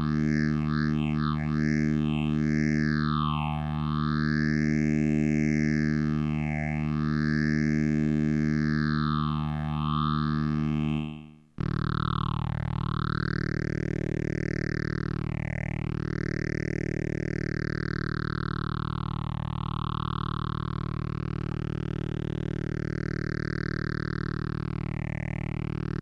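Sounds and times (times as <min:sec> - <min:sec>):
buzzy synthesizer tone with phaser sweeps: 0:00.0 - 0:26.0.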